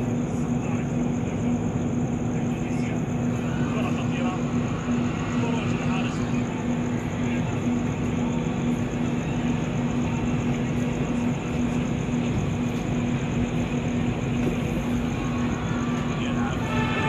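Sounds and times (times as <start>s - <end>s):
diesel train drone: 0.0s - 17.0s.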